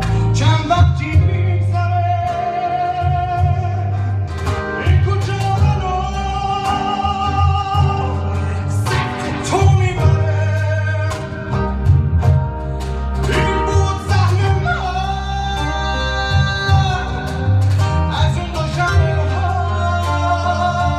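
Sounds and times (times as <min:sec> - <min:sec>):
bass guitar: 0:00.0 - 0:20.9
steady cajon beat: 0:00.0 - 0:20.9
strummed acoustic guitar: 0:00.0 - 0:20.9.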